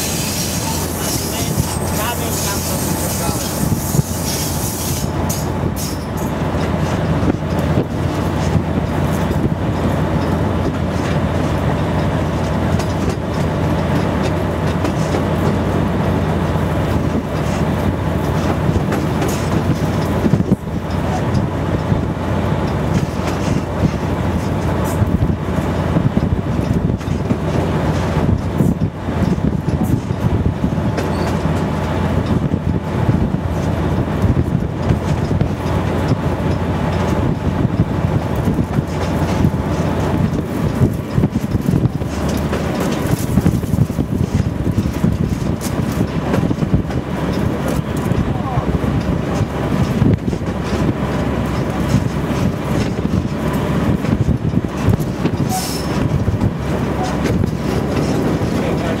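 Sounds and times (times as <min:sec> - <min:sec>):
diesel locomotive engine drone: 0:00.0 - 0:59.0
wheel and rail noise: 0:00.0 - 0:59.0.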